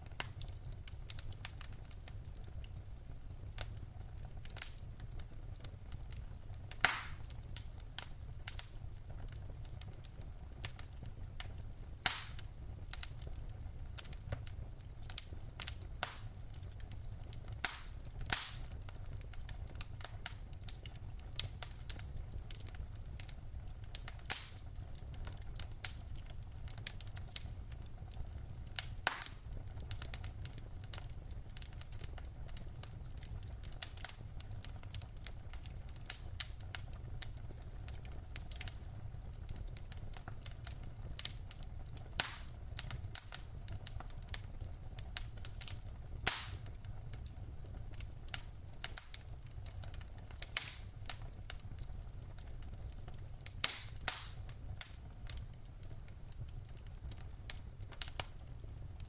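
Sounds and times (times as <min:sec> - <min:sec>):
low rumble of flames: 0:00.0 - 0:59.0
wood fire crackling: 0:00.0 - 0:59.0.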